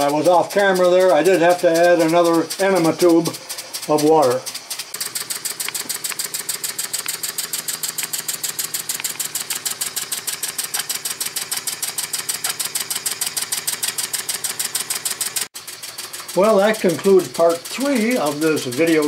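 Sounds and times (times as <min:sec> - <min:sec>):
light mechanical clatter: 0:00.0 - 0:19.0
toy steam engine chuffing: 0:00.0 - 0:19.0.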